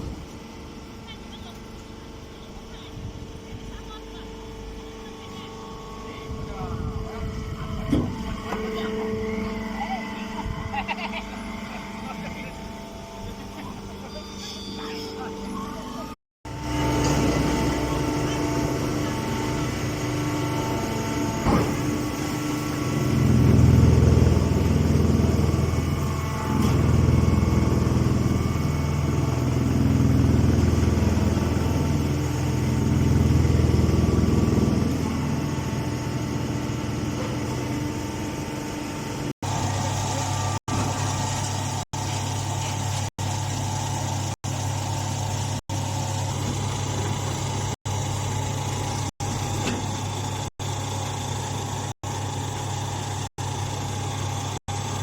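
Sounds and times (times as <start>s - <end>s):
baling machine humming: 0.0s - 55.0s.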